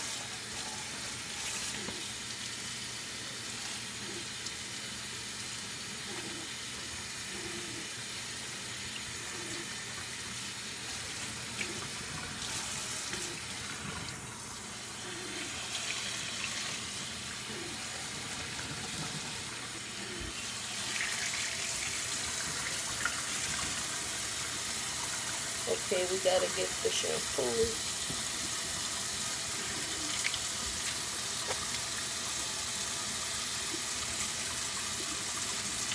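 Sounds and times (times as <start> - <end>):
tap water running and splashing: 0.0 - 35.9.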